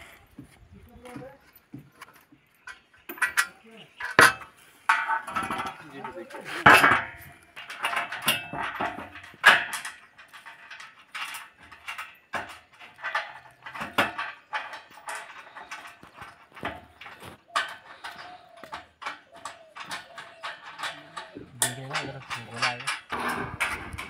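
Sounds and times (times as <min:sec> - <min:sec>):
metal knocks and clinks: 0:01.0 - 0:24.0.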